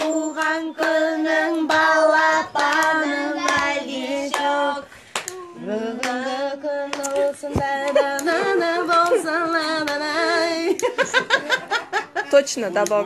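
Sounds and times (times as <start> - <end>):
children singing: 0.0 - 10.8
woman singing: 0.0 - 11.0.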